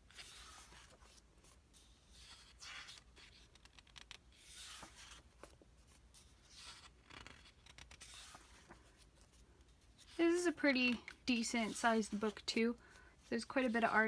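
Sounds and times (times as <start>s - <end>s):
paper pages turning: 0.0s - 14.0s.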